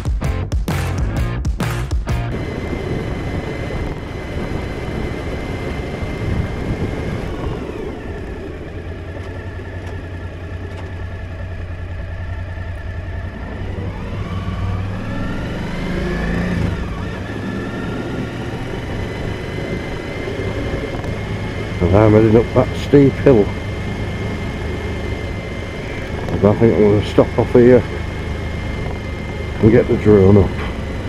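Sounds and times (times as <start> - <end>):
motorcycle engine: 2.1 - 31.0
road and wind noise: 2.2 - 31.0.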